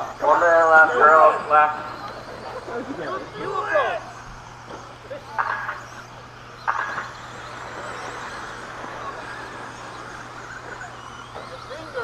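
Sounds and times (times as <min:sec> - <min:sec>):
toy truck motors whirring: 0:00.0 - 0:12.0.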